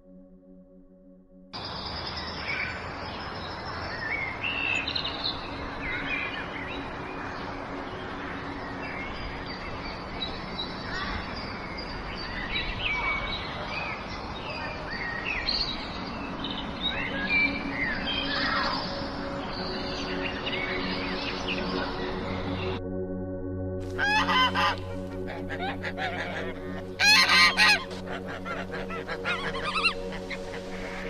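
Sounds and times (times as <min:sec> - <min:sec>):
birds chirping: 0:01.6 - 0:22.8, 0:23.9 - 0:31.0.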